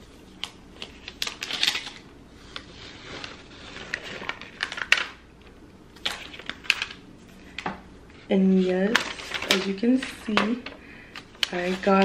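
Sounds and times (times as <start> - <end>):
plastic wrap crinkling: 0.1 - 7.6, 8.4 - 12.0.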